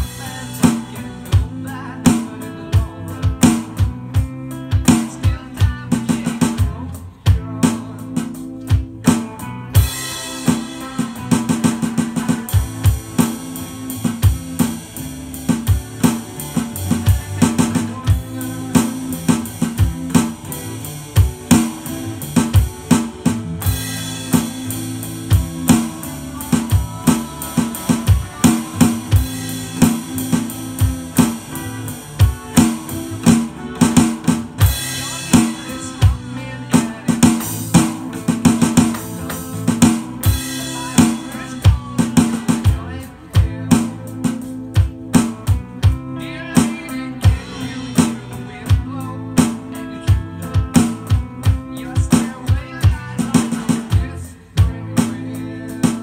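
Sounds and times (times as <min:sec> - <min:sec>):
backing track with guitar: 0:00.0 - 0:56.0
electronic drum kit rock beat: 0:00.0 - 0:56.0.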